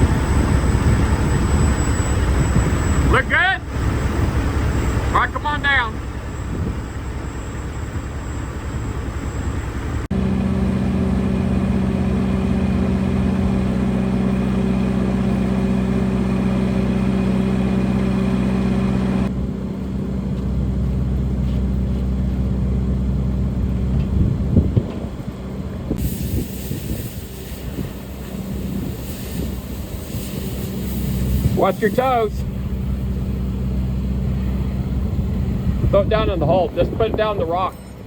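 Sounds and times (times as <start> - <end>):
crane engine running under load: 0.0 - 38.0.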